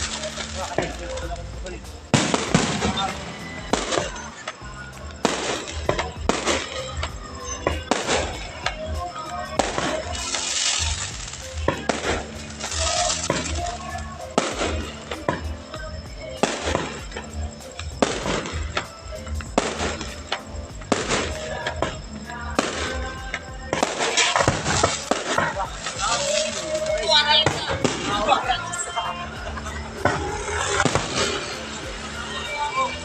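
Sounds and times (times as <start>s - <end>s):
fireworks bangs: 0.0s - 33.0s
fireworks crackling: 0.0s - 33.0s
music with heavy bass: 0.0s - 33.0s.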